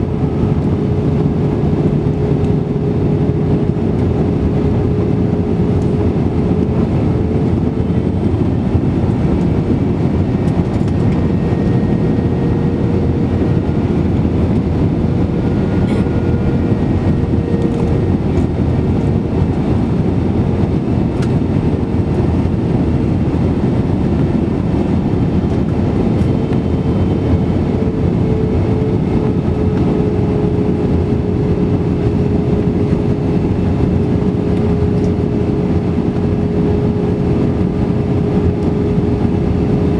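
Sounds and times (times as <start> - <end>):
aircraft cabin roar: 0.0 - 39.9
steady hum: 0.0 - 39.9.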